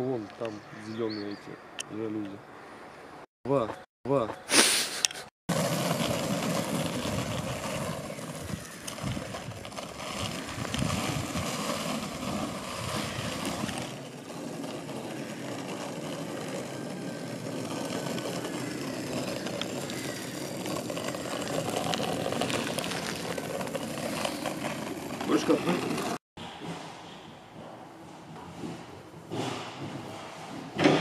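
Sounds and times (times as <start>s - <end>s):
skateboard wheels rolling on asphalt: 5.5s - 31.0s.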